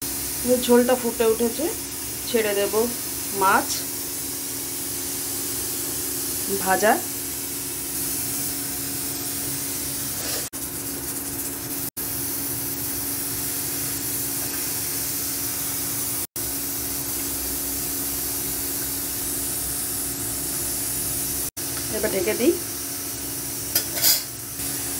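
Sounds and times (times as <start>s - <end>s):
curry boiling hard in pan: 0.0s - 24.9s.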